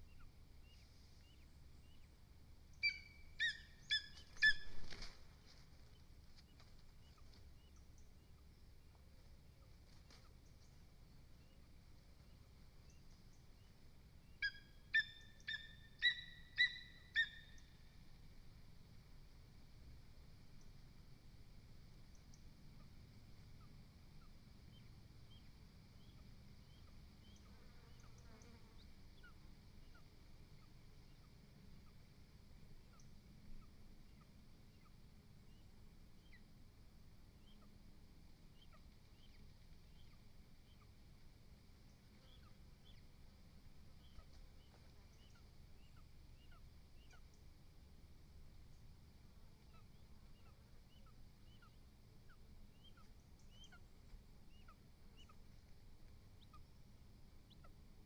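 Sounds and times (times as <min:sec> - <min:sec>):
faint bird chirps: 0:00.0 - 0:18.1, 0:22.0 - 0:32.1, 0:32.8 - 0:36.6, 0:37.4 - 0:37.8, 0:38.5 - 0:41.0, 0:41.8 - 0:43.2, 0:43.9 - 0:47.5, 0:48.6 - 0:55.7, 0:56.3 - 0:57.8.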